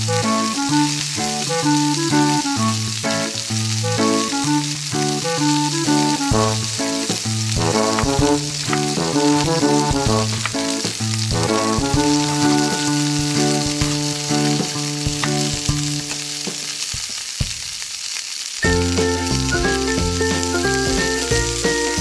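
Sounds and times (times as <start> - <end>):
cheerful background music: 0.0 - 16.8, 18.6 - 22.0
frying pan sizzle: 0.0 - 22.0.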